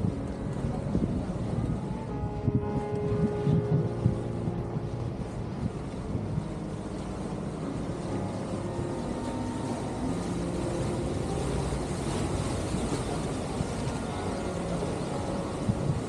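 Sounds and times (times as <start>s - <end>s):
boat engine drone: 0.0s - 16.0s
water rushing along hull: 0.0s - 16.0s.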